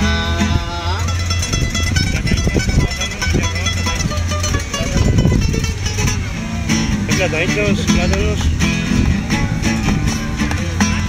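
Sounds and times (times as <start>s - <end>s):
guitar plucking and strumming: 0.0s - 11.0s.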